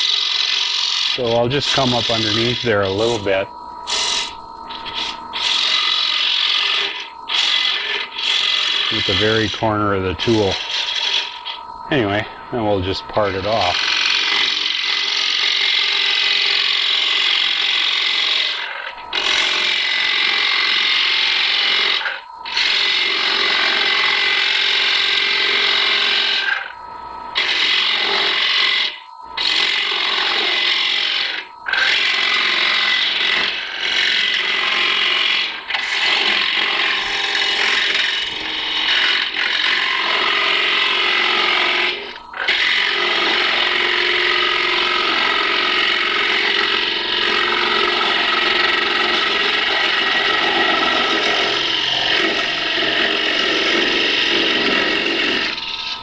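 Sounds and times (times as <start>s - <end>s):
lathe tool scraping wood: 0.0s - 26.7s, 27.4s - 56.0s.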